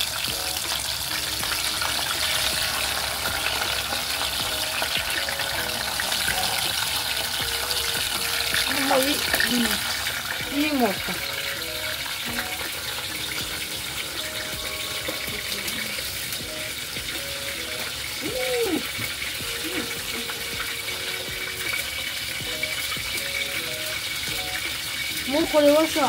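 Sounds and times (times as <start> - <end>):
hot oil sizzling and crackling: 0.0 - 26.0.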